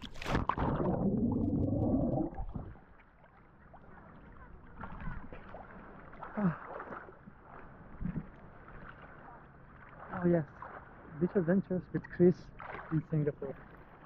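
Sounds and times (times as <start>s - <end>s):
sea water splashing: 0.0s - 14.0s.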